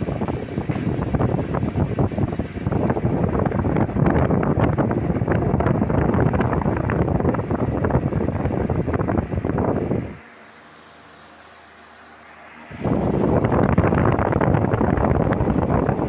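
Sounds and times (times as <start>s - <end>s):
faint steady hum: 0.0s - 16.0s
fan air buffeting microphone: 0.0s - 16.0s.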